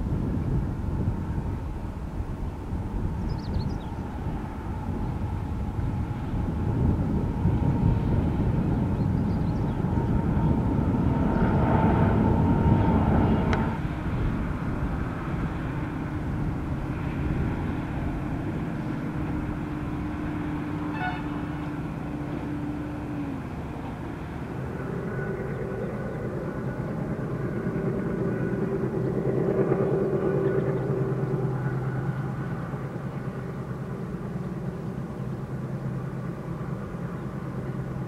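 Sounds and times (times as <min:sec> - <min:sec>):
vehicle engine humming: 0:00.0 - 0:38.0.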